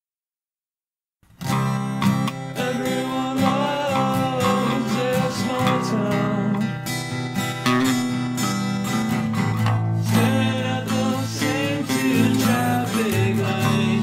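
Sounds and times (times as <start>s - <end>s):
punk rock song with strummed guitar: 1.4s - 14.0s.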